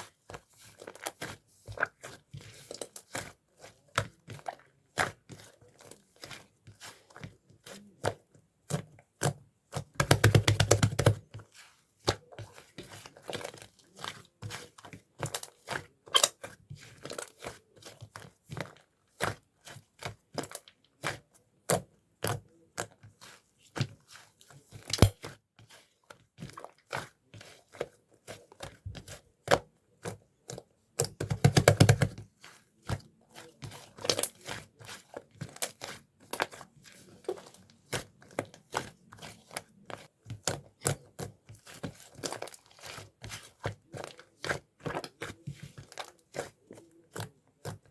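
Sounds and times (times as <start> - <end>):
slime squelching and popping: 0.2 - 11.4, 12.0 - 23.5, 24.1 - 25.4, 26.2 - 47.9.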